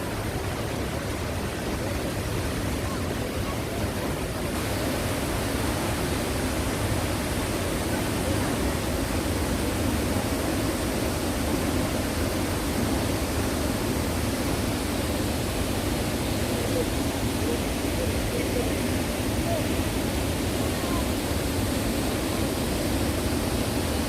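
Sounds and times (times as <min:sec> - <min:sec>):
falling water rushing: 0:00.0 - 0:24.0.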